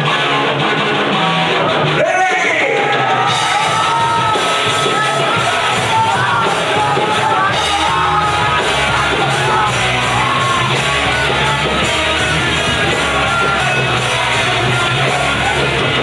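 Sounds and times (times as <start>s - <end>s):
rock band playing live: 0.0s - 16.0s
sung and yelled vocals: 1.5s - 16.0s.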